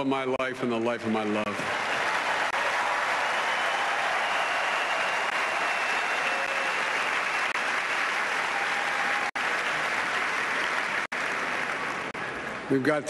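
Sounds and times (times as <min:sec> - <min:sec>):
large crowd applauding: 0:00.8 - 0:13.0.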